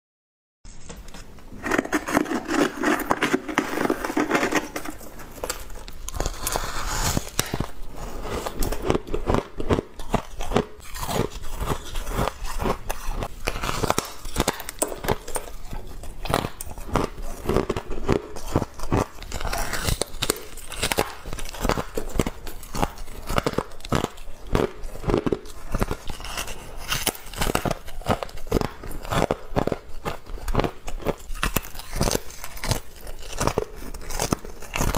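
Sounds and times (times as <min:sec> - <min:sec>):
person crunching frost: 0:01.2 - 0:34.9.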